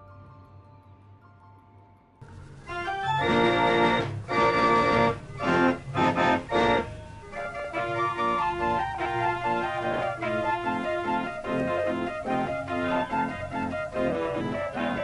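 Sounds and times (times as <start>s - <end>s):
carousel organ music: 2.2s - 15.0s
faint tune: 2.2s - 15.0s.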